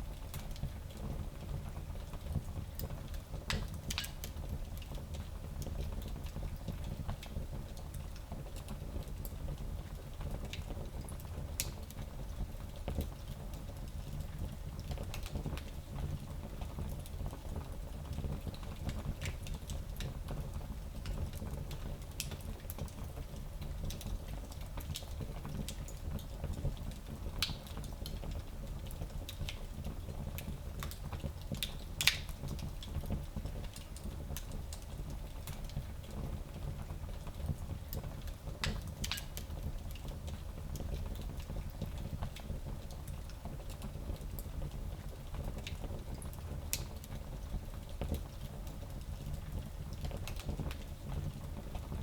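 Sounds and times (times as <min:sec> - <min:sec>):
fire crackling in a fireplace: 0:00.0 - 0:52.0.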